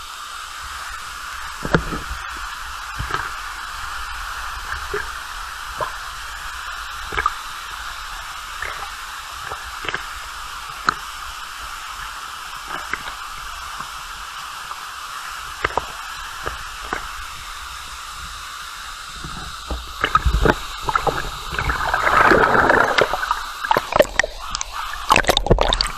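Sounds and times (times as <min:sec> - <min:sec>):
waterfall hissing: 0:00.0 - 0:25.9
water drips and splashes: 0:00.1 - 0:25.9.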